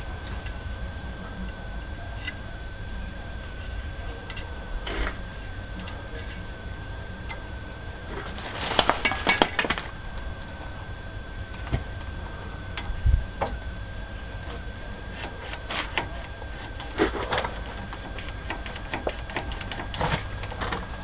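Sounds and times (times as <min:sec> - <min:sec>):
faint steady whine: 0:00.0 - 0:21.0.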